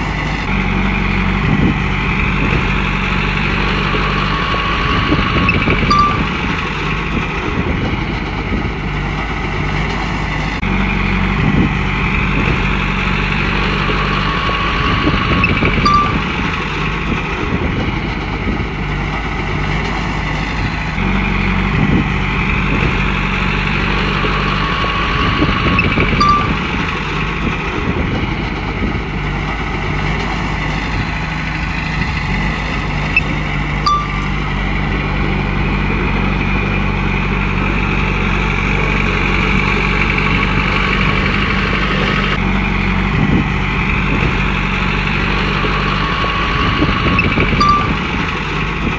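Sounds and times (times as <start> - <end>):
bulldozer diesel engine working: 0.0 - 48.9.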